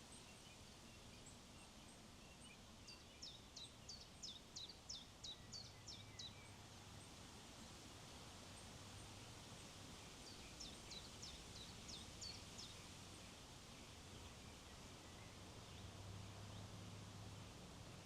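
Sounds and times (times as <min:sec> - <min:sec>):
songbird singing: 0:00.0 - 0:06.6, 0:10.0 - 0:18.0
faint wind hiss: 0:00.0 - 0:18.0.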